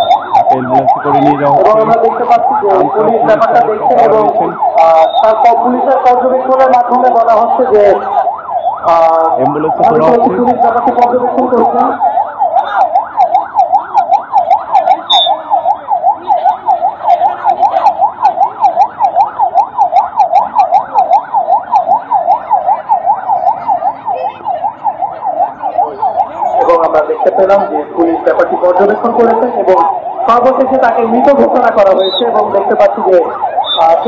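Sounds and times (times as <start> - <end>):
ambulance siren yelping: 0.0 - 34.0.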